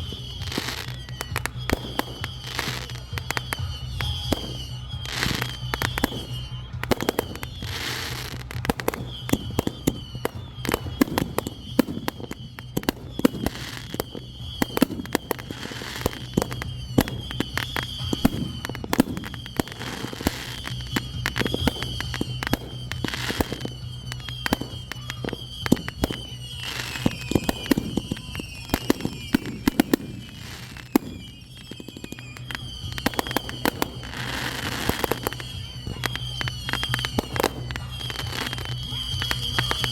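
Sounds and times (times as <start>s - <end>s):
firework crackles and bangs: 0.0s - 39.9s
high falling whistles: 0.0s - 39.9s.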